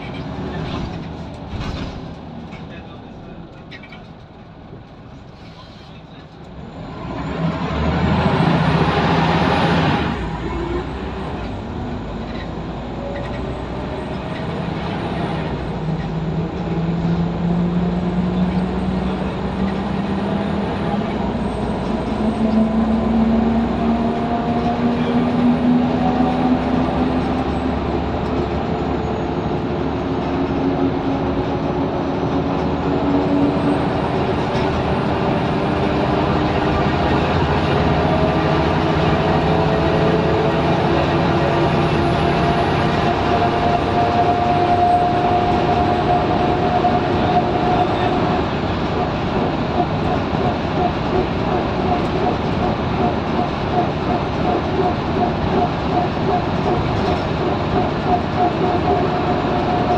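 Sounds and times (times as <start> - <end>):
bus diesel engine pulling: 0.0 - 59.9.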